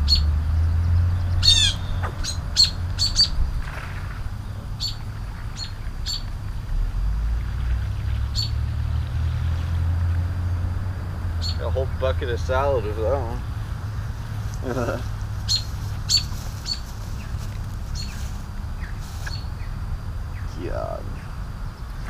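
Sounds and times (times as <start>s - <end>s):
bird chirping: 0.0s - 3.6s, 4.3s - 6.6s, 7.3s - 8.8s, 11.2s - 22.0s
steady low rumble: 0.0s - 22.0s.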